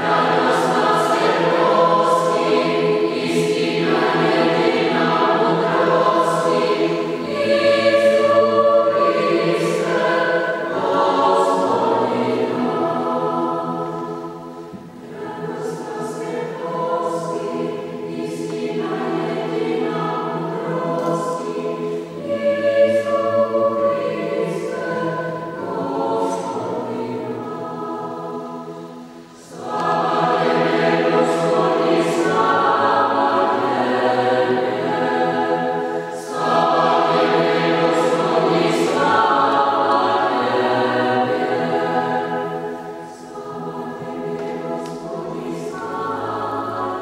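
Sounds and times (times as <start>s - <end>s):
church choir singing: 0.0s - 47.0s.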